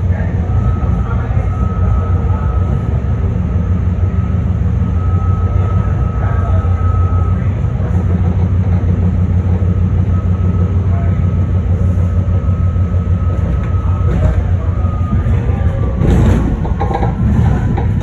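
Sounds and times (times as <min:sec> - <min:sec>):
train wheels and motors rumbling: 0:00.0 - 0:18.0.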